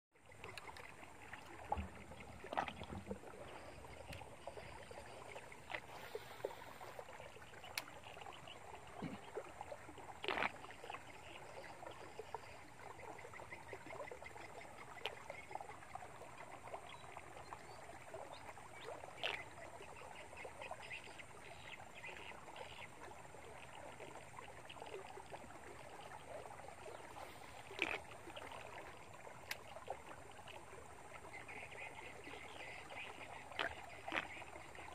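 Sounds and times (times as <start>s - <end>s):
faint outdoor hiss: 0.2s - 34.9s.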